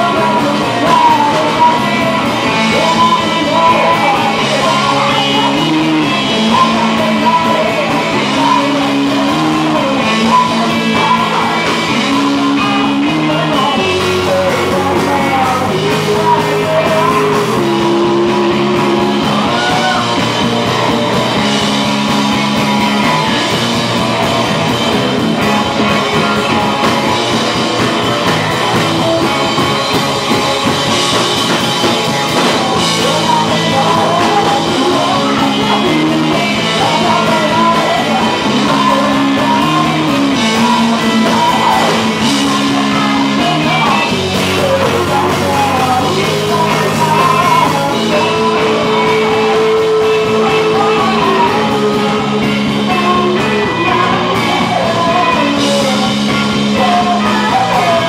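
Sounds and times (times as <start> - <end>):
drum kit: 0.0 - 58.0
electric guitar: 0.0 - 58.0
person singing: 0.0 - 58.0.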